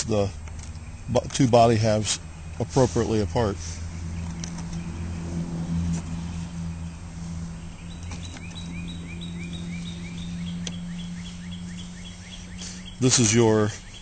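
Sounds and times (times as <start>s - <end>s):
bird chirping: 0.0s - 14.0s
steady low hum: 0.0s - 14.0s.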